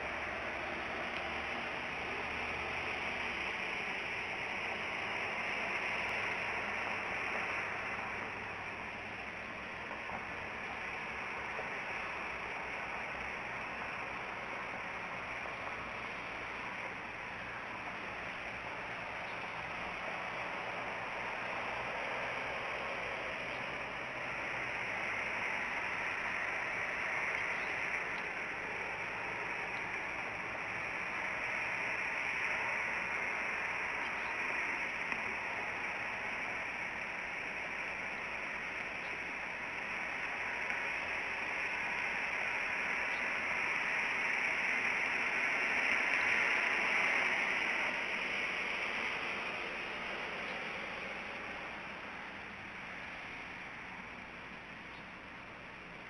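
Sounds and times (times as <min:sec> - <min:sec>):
outdoor rushing hiss: 0:00.0 - 0:56.0
faint ticks: 0:04.6 - 0:55.2.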